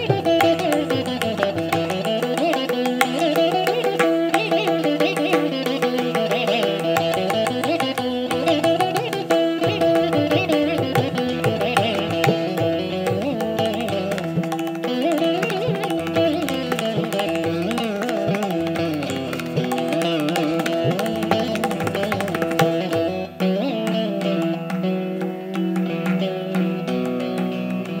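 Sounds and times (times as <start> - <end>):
hand drum strokes: 0.0 - 28.0
veena melody with sliding notes: 0.0 - 28.0.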